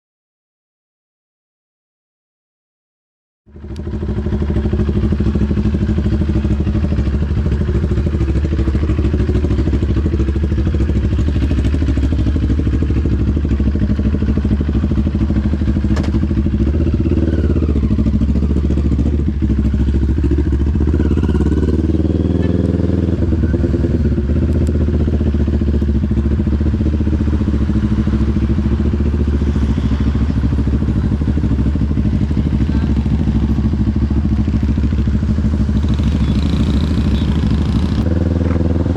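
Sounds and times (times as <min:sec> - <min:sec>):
motorcycle engine running: 0:03.5 - 0:38.9.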